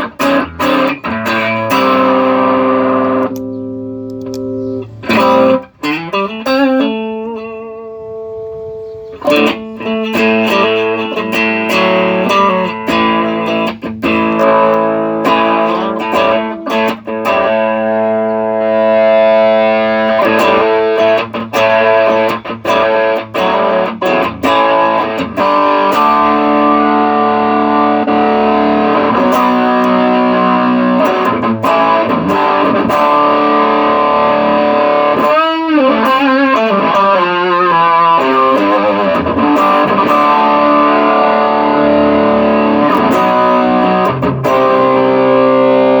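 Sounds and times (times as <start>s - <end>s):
distorted electric guitar chords: 0.0s - 46.0s.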